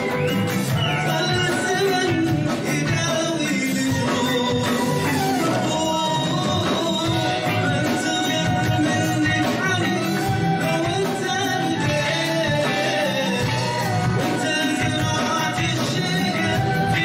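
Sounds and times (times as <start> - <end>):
guitars: 0.0 - 17.0
keyboard: 0.0 - 17.0
man singing: 0.0 - 17.0.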